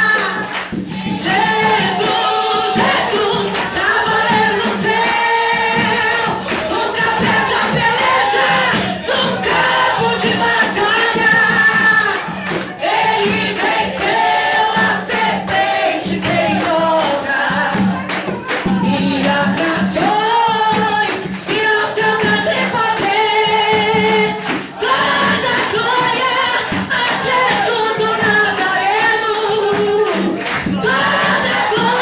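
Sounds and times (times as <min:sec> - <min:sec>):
woman singing into a microphone: 0:00.0 - 0:12.4, 0:14.8 - 0:18.0, 0:18.7 - 0:32.0
congregation singing along: 0:00.0 - 0:32.0
hand percussion: 0:00.0 - 0:32.0.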